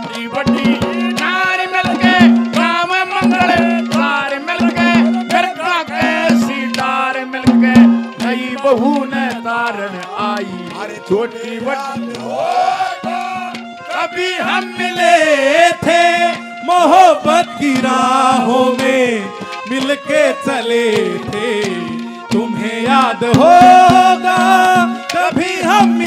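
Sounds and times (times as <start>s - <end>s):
hand drum beats: 0.0s - 26.0s
man singing ornamented notes: 0.0s - 26.0s.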